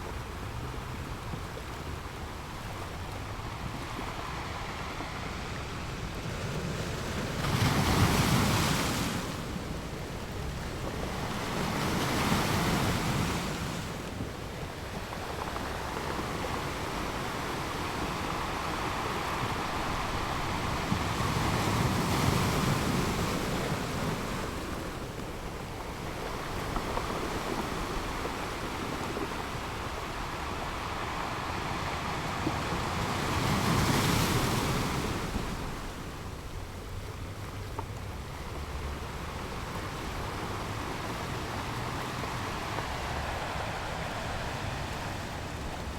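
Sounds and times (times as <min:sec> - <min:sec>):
waves breaking on a beach: 0:00.0 - 0:45.9
wind buffeting microphone: 0:00.0 - 0:45.9.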